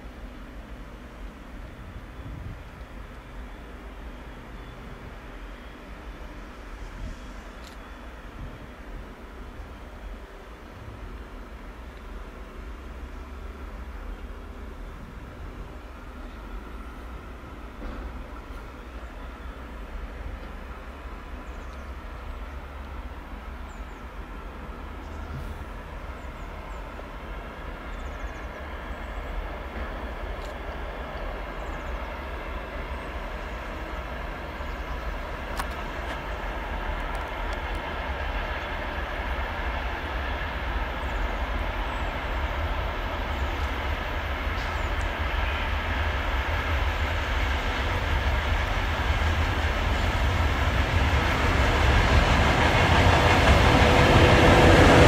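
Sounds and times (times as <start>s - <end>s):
locomotive engine rumble: 0.0s - 55.0s.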